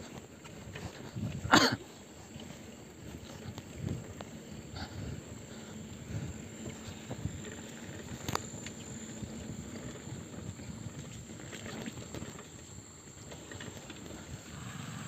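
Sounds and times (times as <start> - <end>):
bike tyres rumbling on dirt: 0.0 - 15.0.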